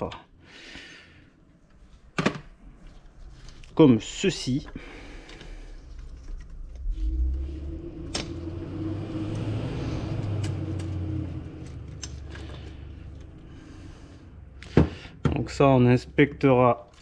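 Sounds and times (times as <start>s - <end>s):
low rumble with steady hum: 1.4s - 17.0s.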